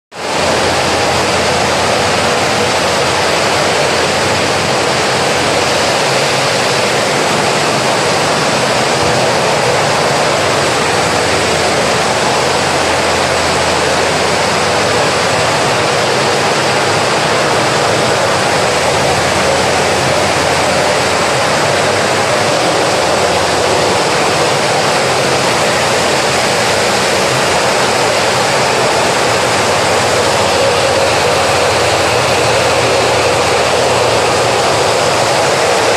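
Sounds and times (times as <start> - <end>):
machine rushing noise: 0.2 - 35.9.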